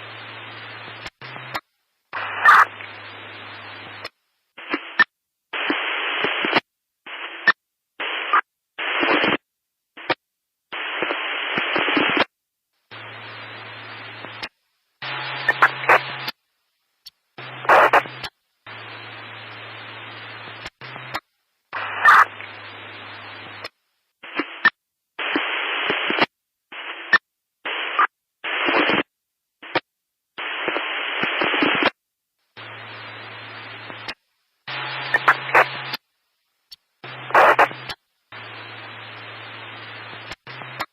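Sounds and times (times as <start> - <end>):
static hiss: 0.0 - 40.9.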